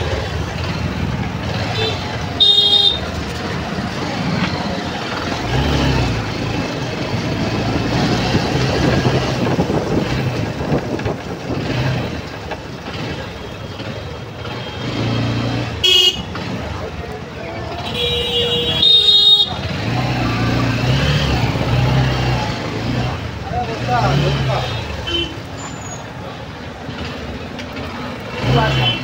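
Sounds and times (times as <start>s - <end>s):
road and traffic noise: 0.0s - 29.0s.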